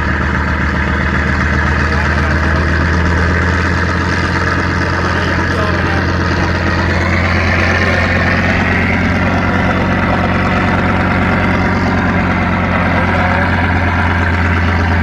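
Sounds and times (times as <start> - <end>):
large engine humming: 0.0 - 15.0.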